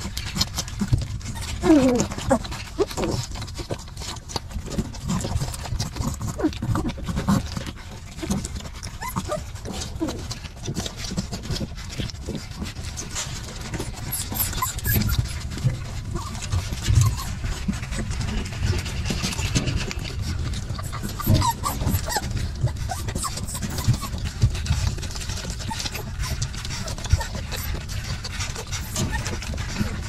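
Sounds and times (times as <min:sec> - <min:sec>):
puppies whimpering and squealing: 0:00.0 - 0:30.0
suckling clicking and rustling: 0:00.0 - 0:30.0.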